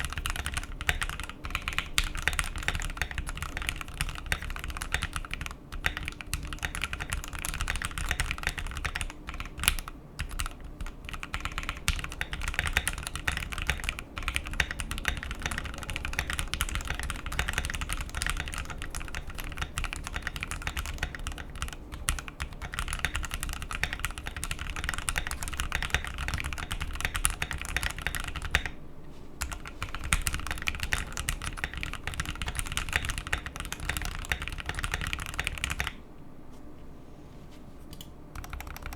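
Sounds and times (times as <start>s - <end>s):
fast mechanical keyboard typing: 0.0s - 28.8s, 29.4s - 36.0s, 38.3s - 38.9s.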